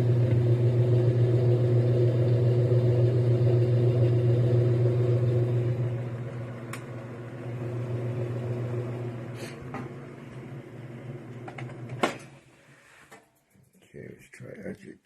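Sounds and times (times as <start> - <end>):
low machine hum: 0.0 - 12.1.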